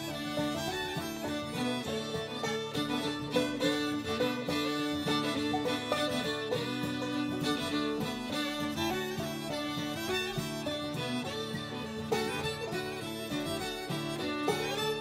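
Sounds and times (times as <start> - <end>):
fiddle: 0.0 - 15.0
plucked strings: 0.0 - 15.0.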